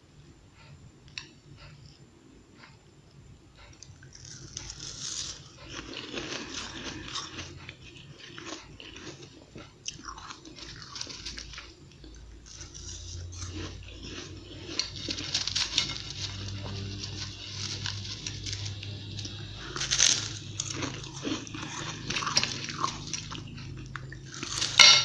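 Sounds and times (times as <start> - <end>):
chewing and crunching ice: 3.8 - 25.0.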